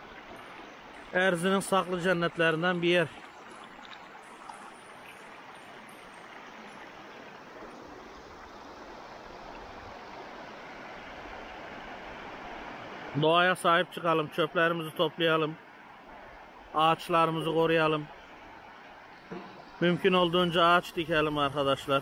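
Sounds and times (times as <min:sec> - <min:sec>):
stream running over stones: 0:00.0 - 0:22.0.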